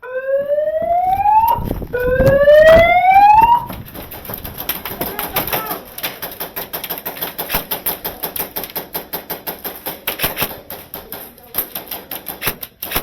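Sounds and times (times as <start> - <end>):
airsoft guns firing: 2.2 - 13.0.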